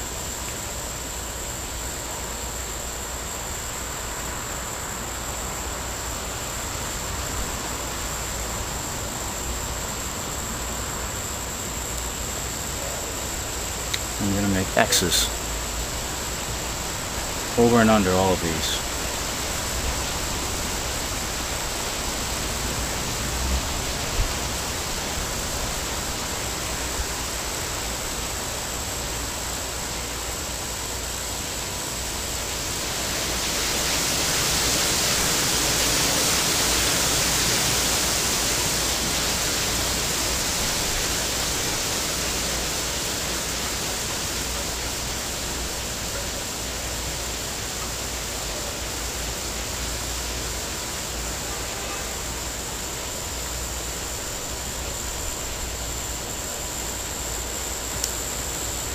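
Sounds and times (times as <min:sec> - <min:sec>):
rushing hiss of background noise: 0:00.0 - 0:58.9.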